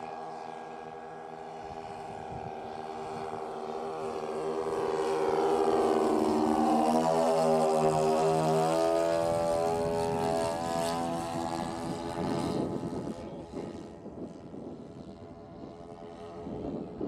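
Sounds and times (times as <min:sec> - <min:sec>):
model plane propeller drone: 0:00.0 - 0:17.0.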